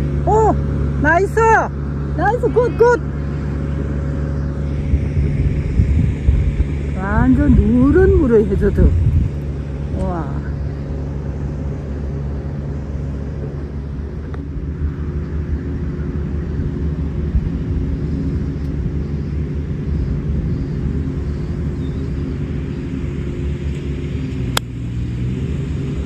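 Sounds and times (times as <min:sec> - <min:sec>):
microphone rumble: 0:00.0 - 0:24.2
low engine drone: 0:00.0 - 0:26.0.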